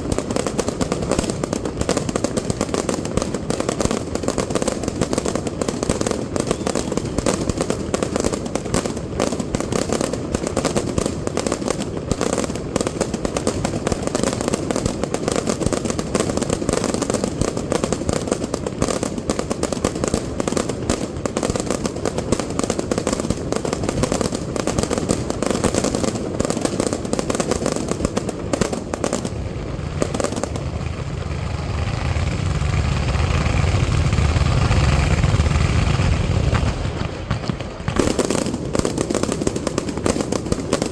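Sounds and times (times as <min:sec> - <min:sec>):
fireworks crackling: 0:00.0 - 0:40.9
heavy firework bursts rumbling: 0:00.0 - 0:40.9.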